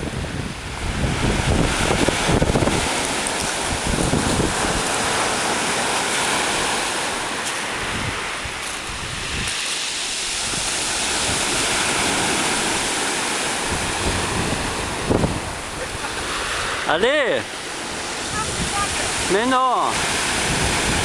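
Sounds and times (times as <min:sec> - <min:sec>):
surf breaking on shore: 0:00.0 - 0:21.0
wind rumbling on microphone: 0:00.0 - 0:21.0.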